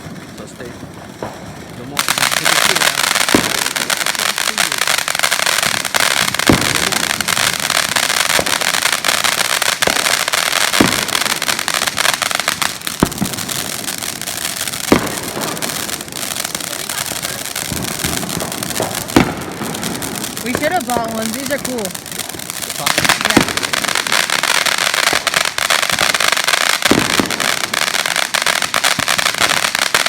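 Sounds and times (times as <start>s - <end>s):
fireworks crackling: 0.0s - 30.0s
sharp firework bangs: 0.0s - 30.0s.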